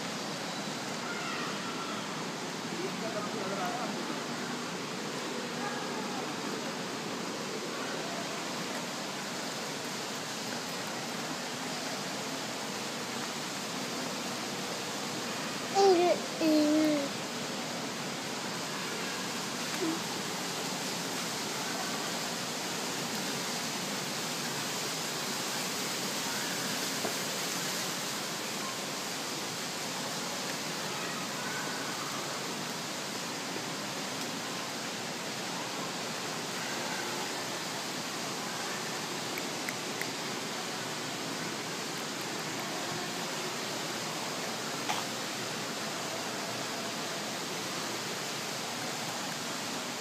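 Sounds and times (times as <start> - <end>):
falling water rushing: 0.0 - 50.0.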